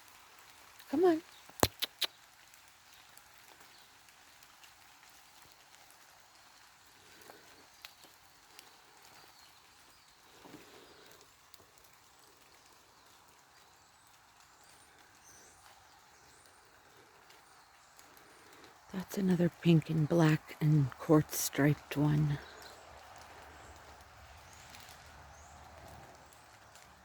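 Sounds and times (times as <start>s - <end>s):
light rain falling: 0.0s - 27.0s
small ticks: 0.4s - 18.9s, 22.4s - 27.0s.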